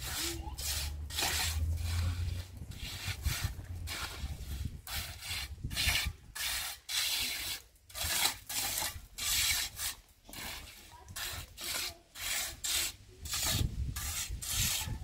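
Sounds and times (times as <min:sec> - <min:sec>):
rough scraping strokes: 0:00.0 - 0:15.0.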